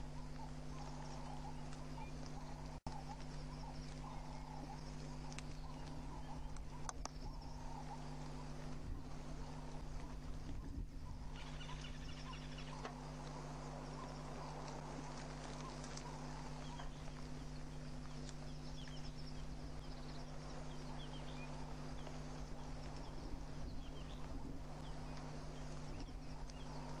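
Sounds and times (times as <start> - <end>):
birds chirping: 0.0 - 27.0
low constant hum: 0.0 - 27.0.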